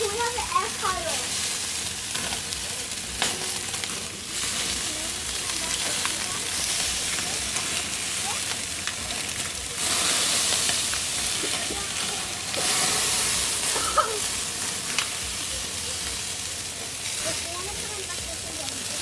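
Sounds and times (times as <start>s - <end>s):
chicken sizzling on a grill: 0.0s - 19.0s.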